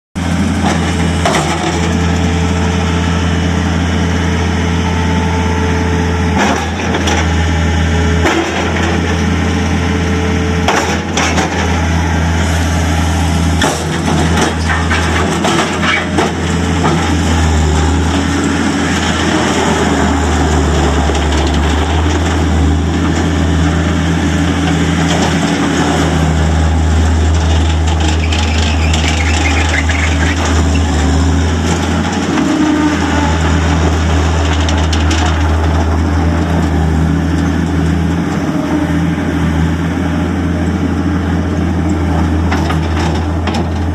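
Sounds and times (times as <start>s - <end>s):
diesel engine running: 0.2s - 43.9s.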